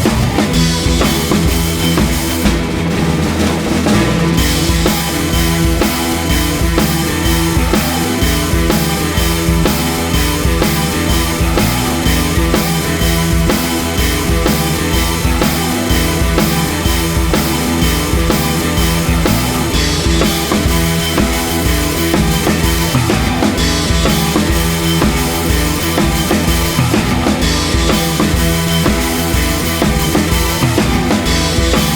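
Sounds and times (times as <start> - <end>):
rock music with drum beat: 0.0 - 31.9.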